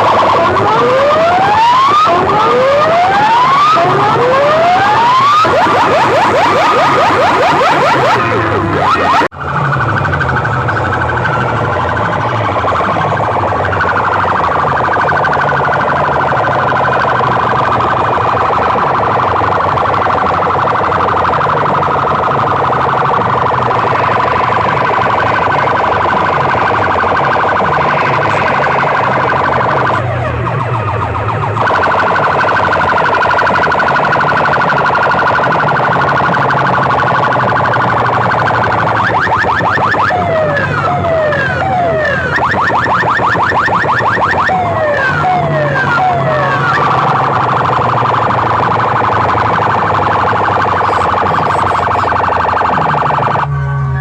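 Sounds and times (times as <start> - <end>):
siren-like warbling alarm: 0.0 - 54.0.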